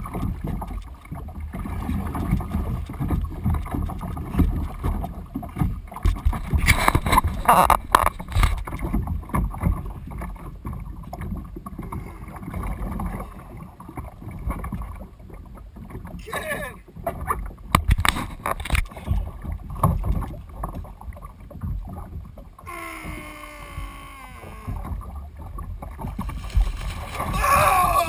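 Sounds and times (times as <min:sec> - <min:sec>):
water splashing against kayak hull: 0:00.0 - 0:28.0.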